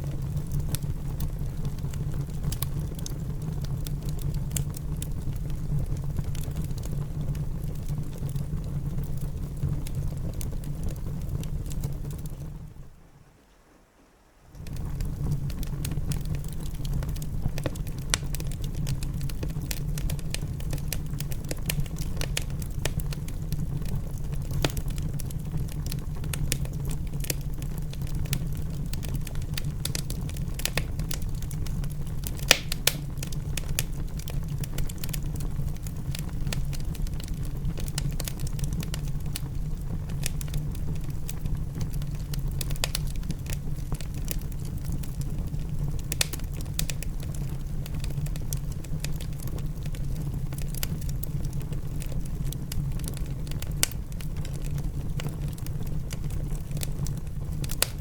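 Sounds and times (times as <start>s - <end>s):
fire popping: 0.0s - 12.8s, 14.5s - 58.0s
wood fire crackling: 0.0s - 13.1s, 14.5s - 58.0s.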